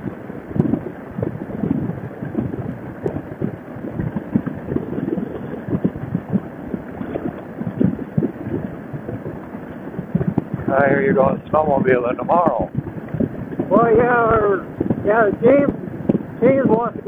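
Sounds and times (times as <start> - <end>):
wind buffeting a microphone: 0.0 - 17.0.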